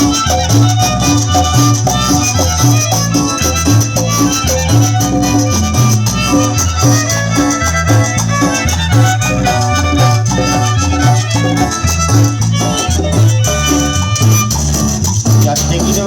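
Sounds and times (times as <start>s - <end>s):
violin melody: 0.0s - 15.1s
shaken percussion: 0.0s - 16.0s
upright bass line: 0.0s - 16.0s.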